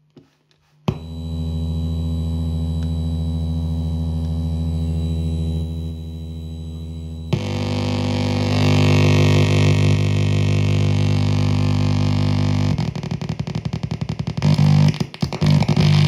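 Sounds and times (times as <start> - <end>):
low buzzy synthesizer drone: 0.9 - 16.0.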